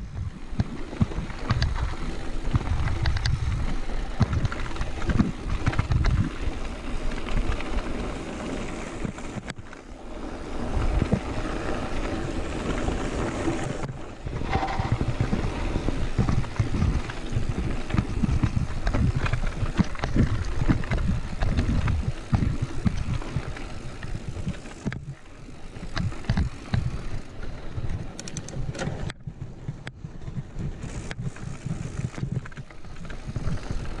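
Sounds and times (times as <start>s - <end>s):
wind buffeting microphone: 0.0s - 8.2s, 10.5s - 34.0s
bike rattling over stones: 0.0s - 34.0s
tyres rumbling on gravel: 0.3s - 28.0s, 30.7s - 34.0s.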